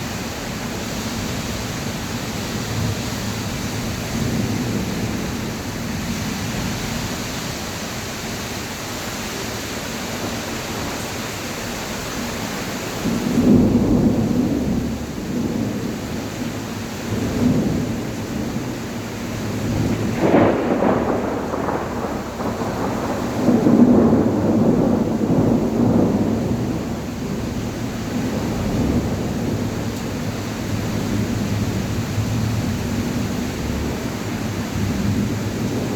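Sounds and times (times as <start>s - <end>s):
low rumbles of thunder: 0.0s - 7.6s, 12.1s - 35.9s
heavy rain falling: 0.0s - 35.9s.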